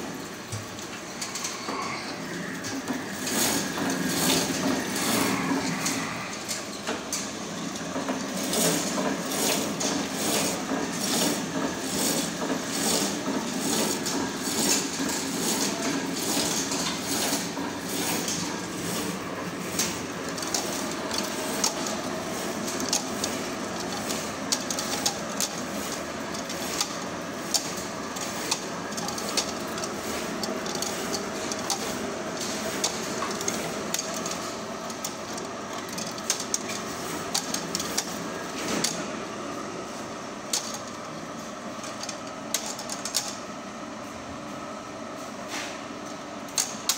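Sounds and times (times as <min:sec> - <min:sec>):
packing machine running: 0:00.0 - 0:44.7.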